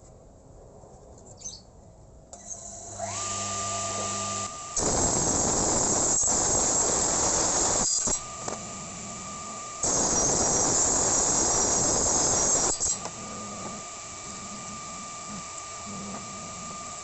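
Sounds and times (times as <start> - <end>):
power tool cutting wood: 2.4 - 17.0
power tool motor whine: 2.4 - 17.0.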